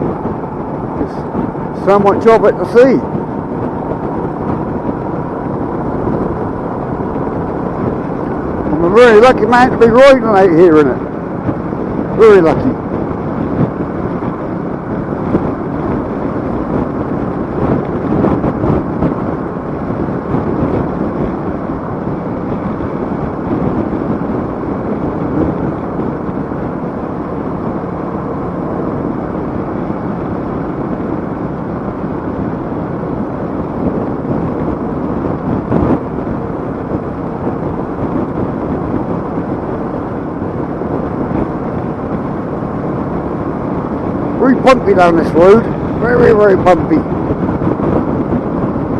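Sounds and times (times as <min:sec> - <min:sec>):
motorcycle engine cruising: 0:00.0 - 0:48.9
wind rush on microphone: 0:00.0 - 0:48.9.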